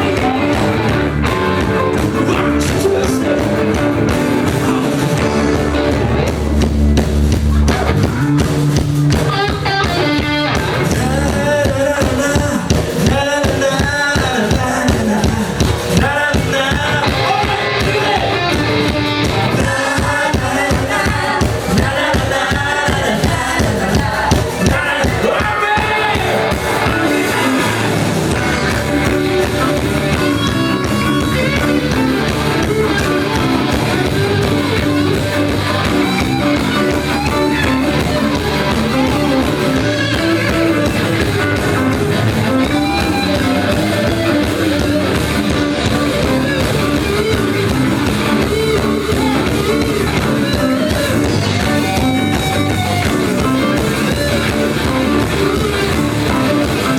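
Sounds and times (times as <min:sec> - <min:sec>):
person singing: 0:00.0 - 0:06.4, 0:09.4 - 0:56.9
electric guitar: 0:00.0 - 0:56.9
heavy drum beat: 0:00.0 - 0:56.9
repeating bass line: 0:00.0 - 0:56.9.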